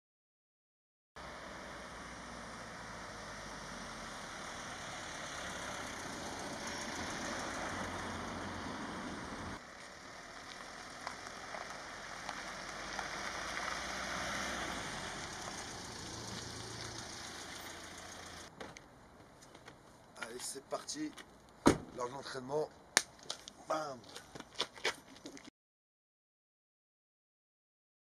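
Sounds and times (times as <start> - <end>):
van engine and tyre noise: 1.2 - 25.5.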